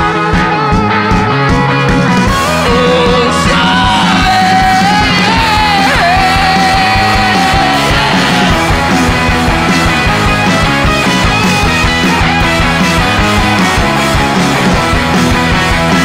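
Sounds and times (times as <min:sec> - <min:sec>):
drum kit: 0:00.0 - 0:16.0
rock band playing live: 0:00.0 - 0:16.0.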